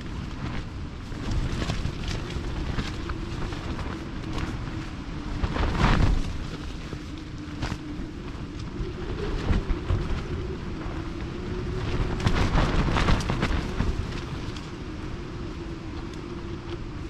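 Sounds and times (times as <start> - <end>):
wind gusting against a tent: 0.0 - 17.0.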